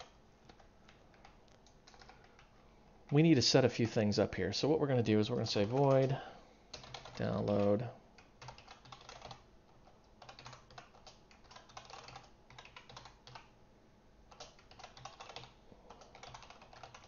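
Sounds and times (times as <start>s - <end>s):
computer keyboard typing: 0.0s - 4.0s, 5.3s - 13.6s, 14.3s - 17.0s.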